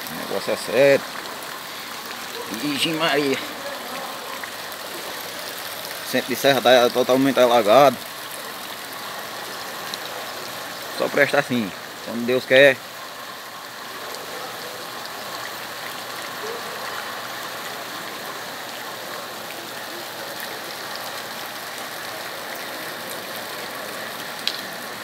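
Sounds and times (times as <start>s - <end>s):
heavy rain on floodwater: 0.0s - 25.0s.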